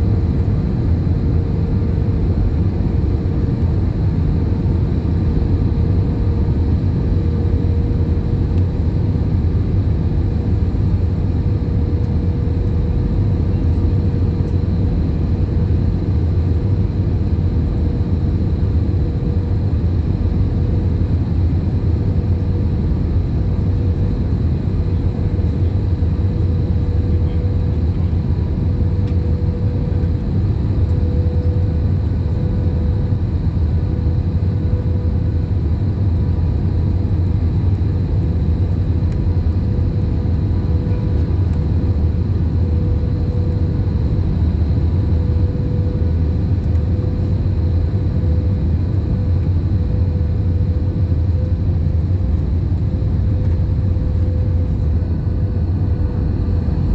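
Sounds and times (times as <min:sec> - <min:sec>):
aircraft cabin engine rumble: 0:00.0 - 0:56.9.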